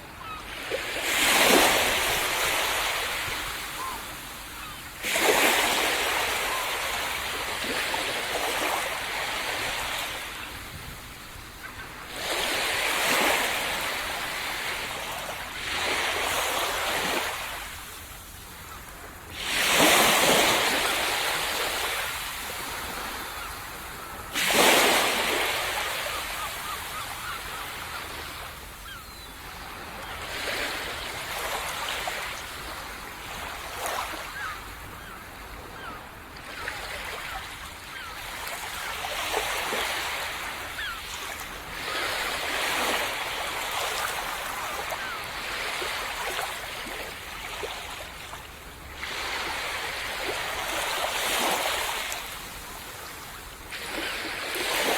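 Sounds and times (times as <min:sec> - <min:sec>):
waves breaking on beach: 0:00.0 - 0:54.9.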